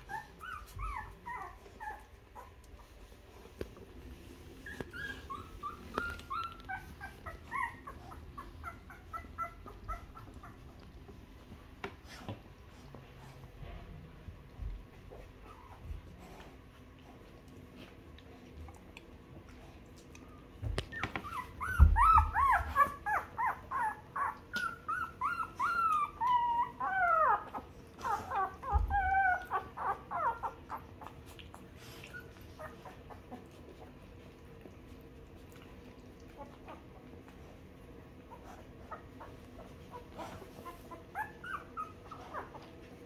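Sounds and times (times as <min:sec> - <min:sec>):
puppies whimpering and squealing: 0:00.0 - 0:13.0, 0:14.7 - 0:17.8, 0:20.2 - 0:43.0.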